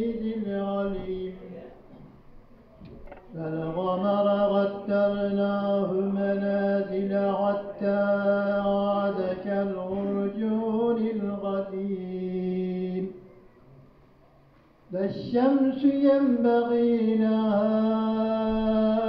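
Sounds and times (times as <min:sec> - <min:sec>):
man chanting into a microphone: 0:00.0 - 0:01.7, 0:03.3 - 0:13.2, 0:14.9 - 0:19.0.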